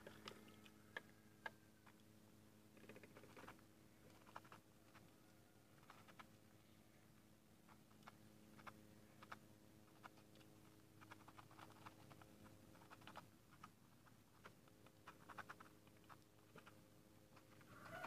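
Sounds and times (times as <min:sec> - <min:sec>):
ducklings pecking at feed: 0:00.0 - 0:02.1, 0:02.7 - 0:06.4, 0:07.6 - 0:18.0.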